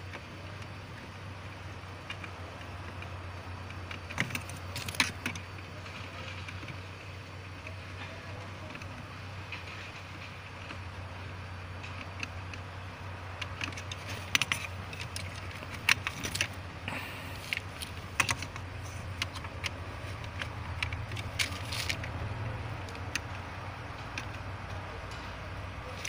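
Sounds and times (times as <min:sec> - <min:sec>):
clicks and taps on plastic fuses: 0:00.0 - 0:26.0
steady low hum: 0:00.0 - 0:26.0.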